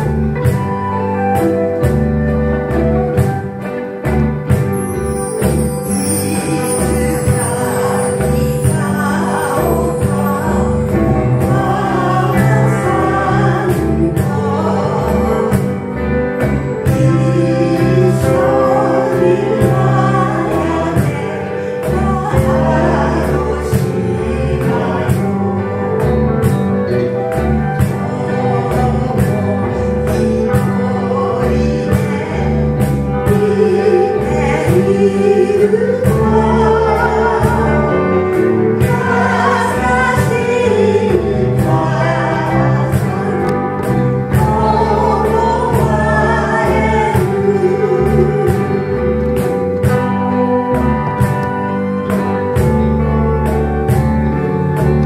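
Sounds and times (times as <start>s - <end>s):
live band playing: 0.0s - 55.0s
woman singing: 0.0s - 55.0s
group singing along: 4.7s - 55.0s.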